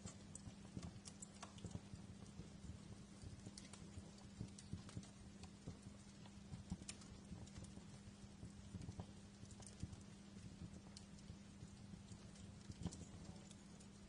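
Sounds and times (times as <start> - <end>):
fire crackling: 0.0 - 14.0
low steady hum: 0.0 - 14.0.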